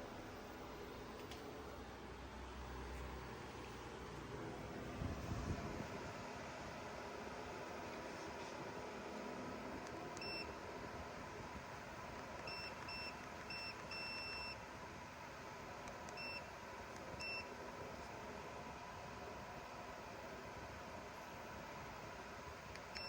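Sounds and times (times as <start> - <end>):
air conditioner fan noise: 0.0 - 23.0.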